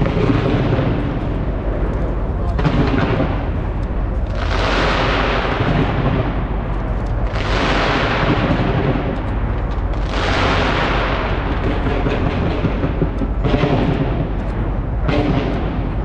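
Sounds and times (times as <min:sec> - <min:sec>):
fireworks bursts rumbling: 0:00.0 - 0:16.0
fireworks hiss and crackle: 0:00.0 - 0:16.0.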